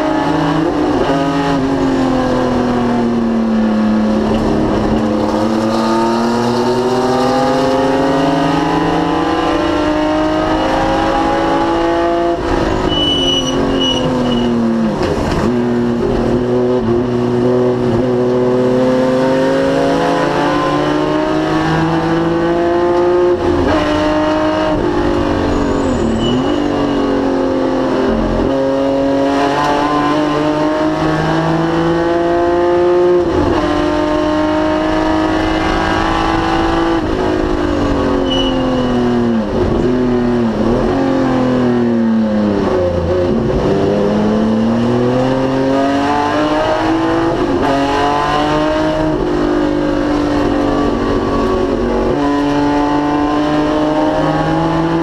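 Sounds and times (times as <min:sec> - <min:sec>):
race car engine accelerating: 0:00.0 - 0:55.0.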